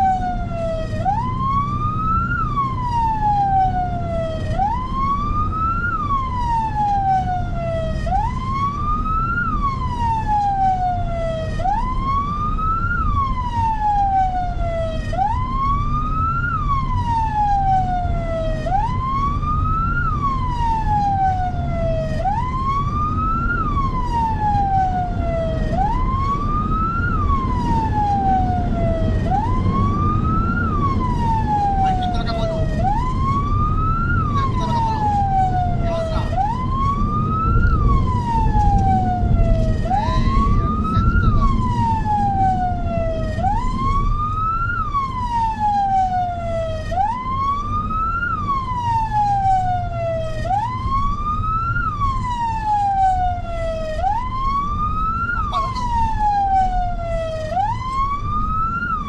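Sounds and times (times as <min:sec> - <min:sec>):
emergency vehicle siren wailing: 0:00.0 - 0:59.0
vehicle and road noise rumble: 0:00.0 - 0:59.0.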